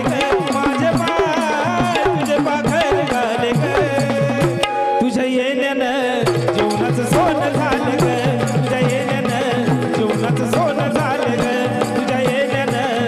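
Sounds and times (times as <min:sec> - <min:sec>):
hand drums fast rhythm: 0:00.0 - 0:04.8, 0:06.2 - 0:13.0.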